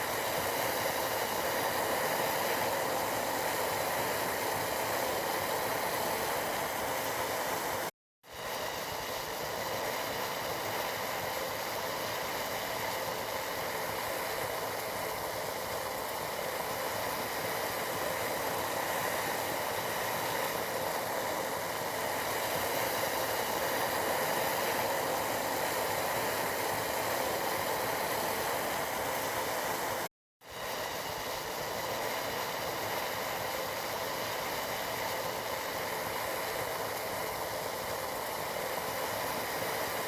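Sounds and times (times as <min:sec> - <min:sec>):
tea boiling hiss: 0:00.0 - 0:40.0.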